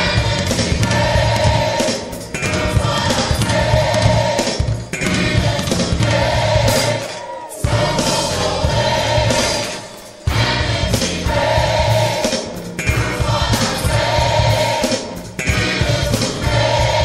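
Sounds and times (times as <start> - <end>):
choir singing gospel: 0.0 - 17.0
instrumental backing with bass: 0.0 - 17.0.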